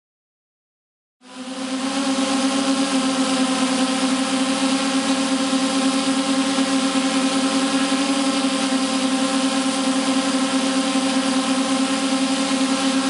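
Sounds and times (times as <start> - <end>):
drone propellers humming: 1.3 - 13.0.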